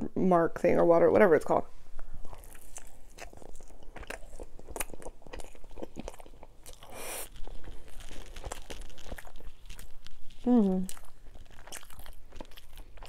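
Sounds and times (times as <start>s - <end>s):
person chewing crunchy food: 2.0s - 13.0s.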